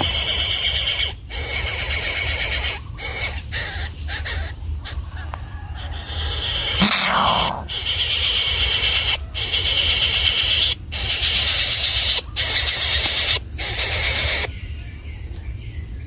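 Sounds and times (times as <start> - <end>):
young animals squealing: 0.0 - 14.5.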